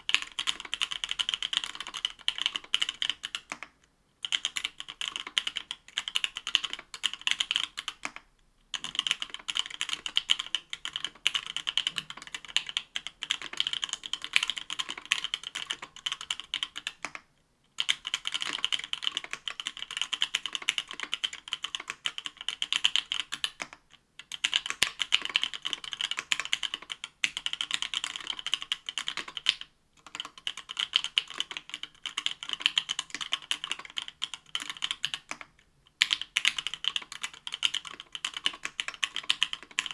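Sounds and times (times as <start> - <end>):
fast typing on mechanical keyboard: 0.0 - 17.2, 17.8 - 39.9.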